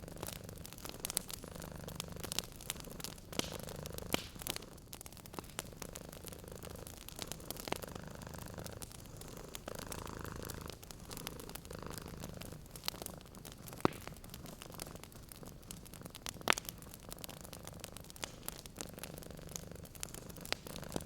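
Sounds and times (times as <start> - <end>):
cat purring: 0.0 - 21.0
wood fire crackling and popping: 0.0 - 21.0.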